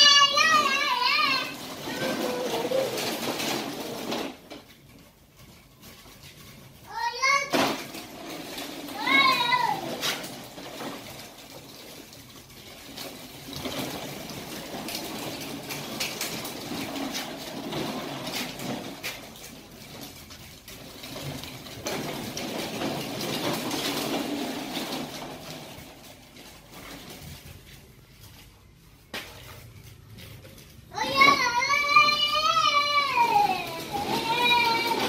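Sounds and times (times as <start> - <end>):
plastic wheels rolling on concrete: 0.0 - 35.0.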